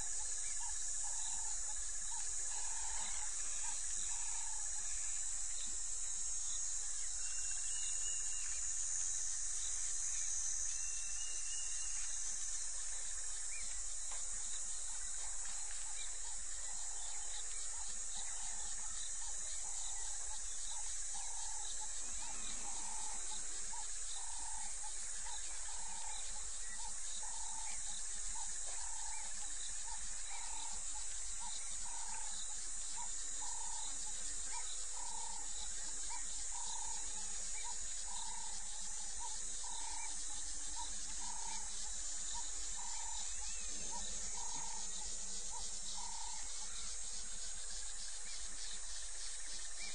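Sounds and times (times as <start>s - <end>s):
chorus of night insects: 0.0s - 49.9s.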